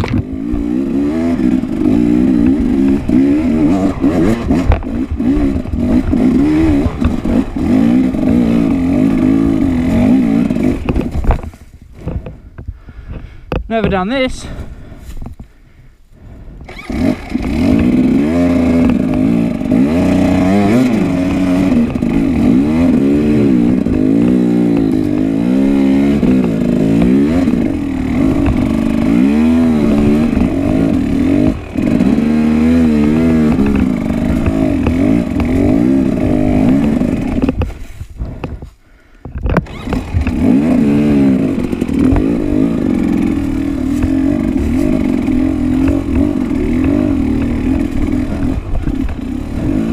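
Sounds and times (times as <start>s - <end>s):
dirt bike engine revving: 0.0s - 12.5s, 16.6s - 38.7s, 39.5s - 49.9s.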